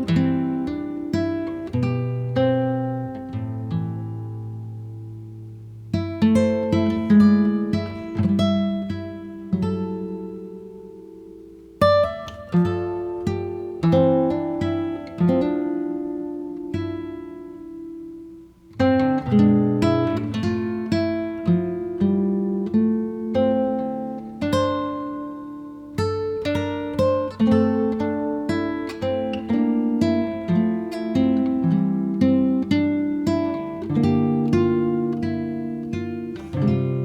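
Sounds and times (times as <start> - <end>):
acoustic guitar plucked notes: 0.0 - 37.0.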